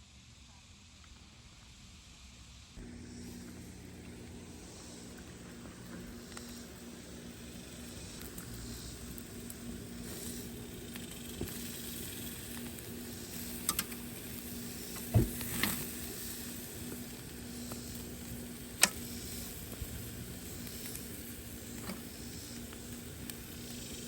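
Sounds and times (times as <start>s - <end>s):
food sizzling in a pan: 1.6s - 24.0s.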